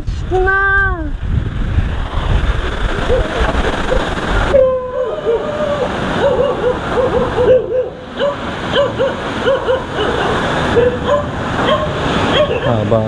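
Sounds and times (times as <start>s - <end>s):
surf washing on a beach: 0.1s - 13.0s.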